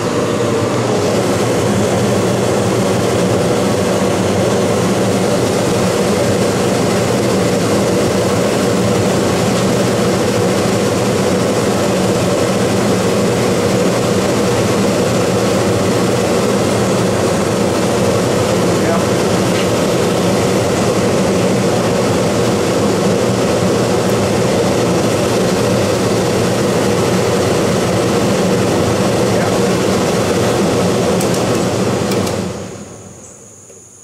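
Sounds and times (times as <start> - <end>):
air conditioner humming: 0.0 - 34.0.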